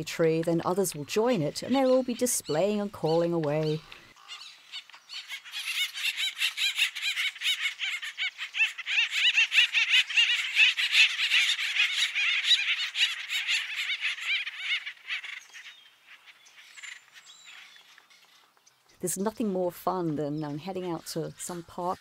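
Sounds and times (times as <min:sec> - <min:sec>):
woodpeckers calling in chorus: 0:00.7 - 0:19.0, 0:20.0 - 0:22.0.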